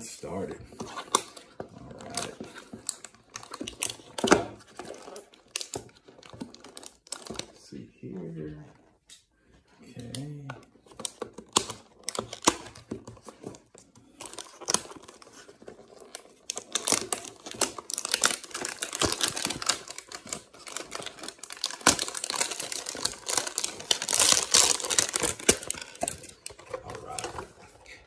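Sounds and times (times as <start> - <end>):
cardboard and wrapping tearing: 0.3 - 7.6, 10.2 - 27.7.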